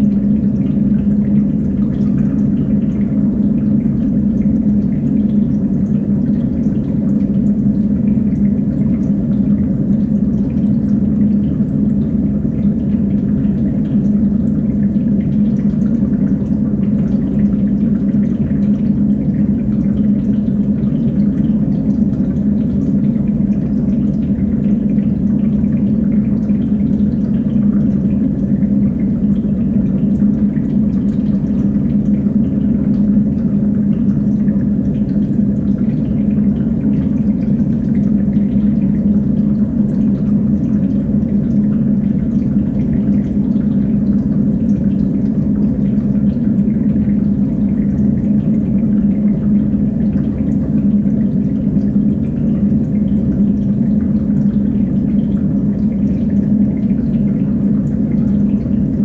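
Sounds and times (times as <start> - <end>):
pump humming: 0.0 - 59.0
water running and dripping: 0.0 - 59.0.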